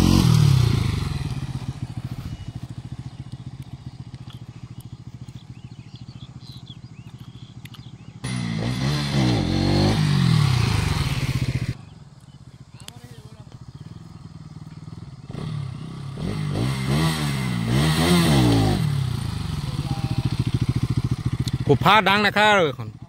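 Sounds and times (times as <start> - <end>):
motorcycle engine revving and idling: 0.0 - 23.0.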